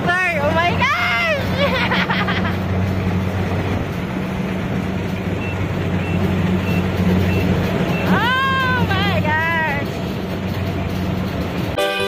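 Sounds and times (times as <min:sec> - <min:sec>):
combine harvester engine and machinery: 0:00.0 - 0:12.0.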